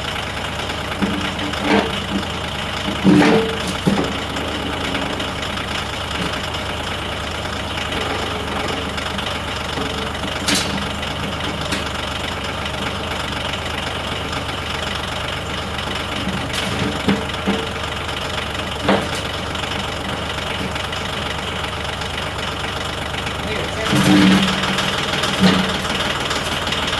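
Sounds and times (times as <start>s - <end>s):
diesel tractor engine running: 0.0s - 26.9s.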